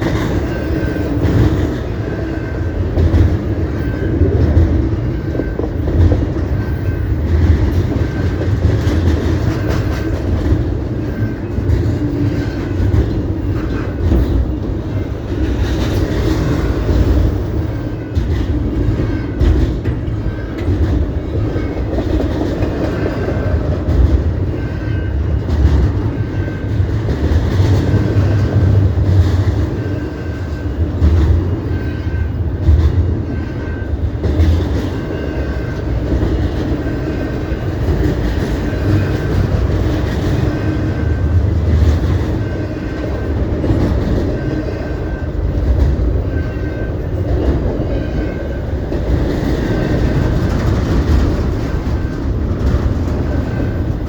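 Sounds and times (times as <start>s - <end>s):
train wheels clacking: 0.0s - 54.0s.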